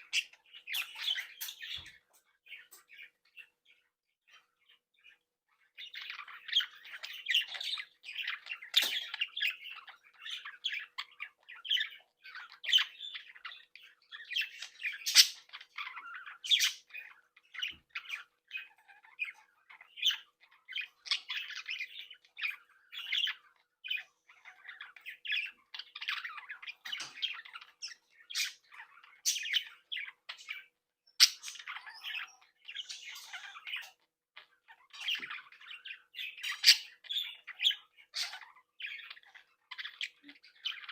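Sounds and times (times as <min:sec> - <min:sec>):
budgerigars chattering and squawking: 0:00.0 - 0:40.9.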